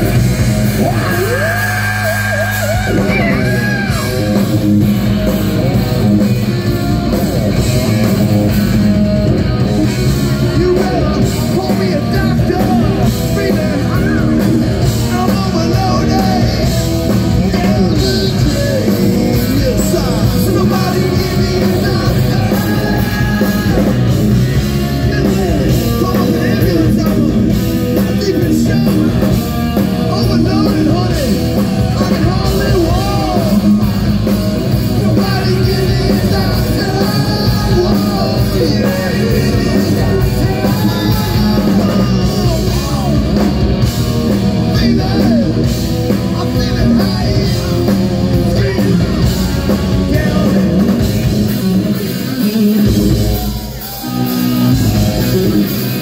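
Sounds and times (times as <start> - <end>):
electric guitar: 0.0 - 56.0
hard rock band playing: 0.0 - 56.0
person singing: 9.8 - 34.0, 34.7 - 56.0.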